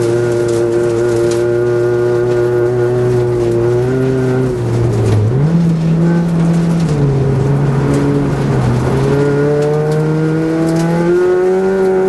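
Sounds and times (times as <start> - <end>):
car engine at speed: 0.0 - 12.0.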